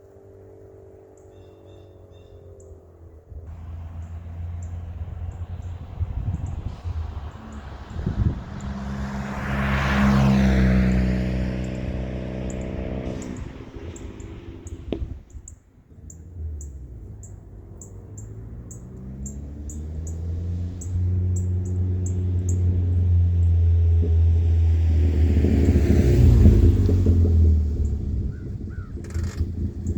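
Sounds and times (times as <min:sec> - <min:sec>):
car exhaust drone: 0:00.0 - 0:29.9.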